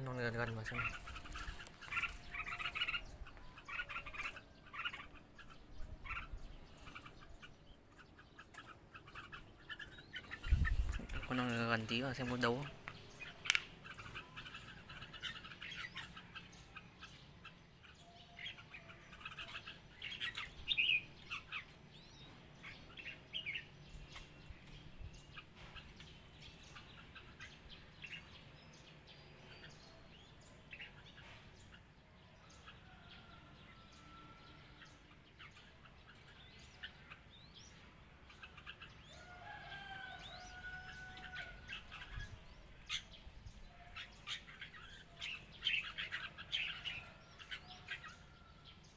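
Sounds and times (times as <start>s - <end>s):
birds chirping and calling: 0.0s - 48.9s.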